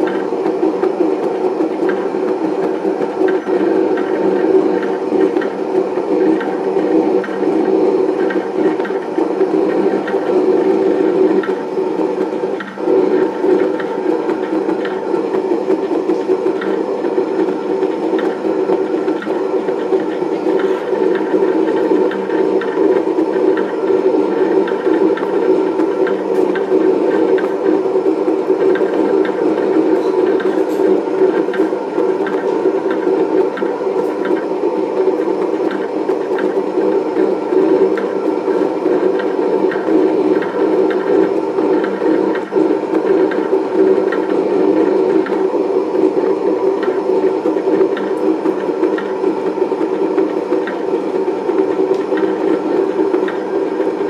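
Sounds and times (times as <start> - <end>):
cutting plotter motors whirring: 0.0 - 54.0.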